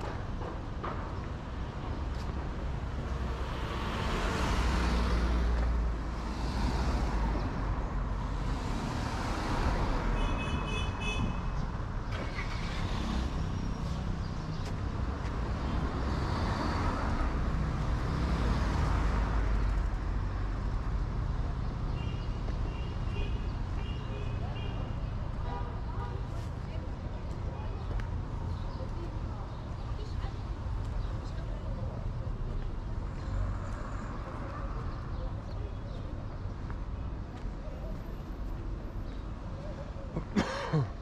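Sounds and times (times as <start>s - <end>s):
cars passing: 0.0s - 41.0s.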